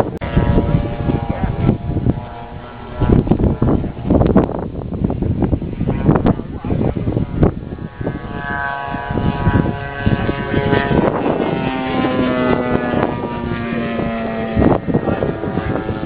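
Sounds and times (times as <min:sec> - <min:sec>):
lower steady engine tone: 0:00.0 - 0:16.0
model airplane engines running: 0:00.0 - 0:16.0
wind gusting on microphone: 0:00.0 - 0:16.0.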